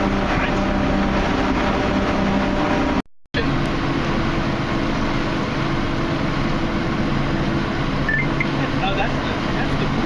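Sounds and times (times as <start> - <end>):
motorboat engine running: 0.0 - 10.0
water noise: 0.0 - 10.0
wind: 0.0 - 10.0.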